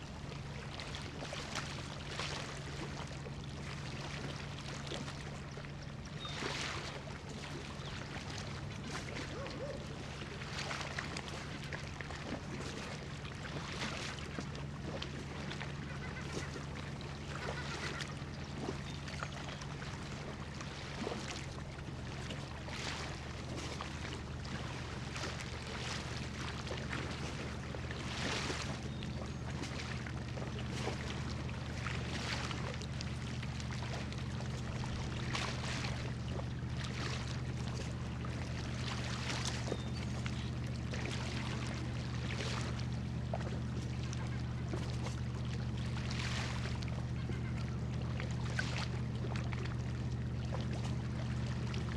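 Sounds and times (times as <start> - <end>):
water lapping and splashing: 0.0 - 51.9.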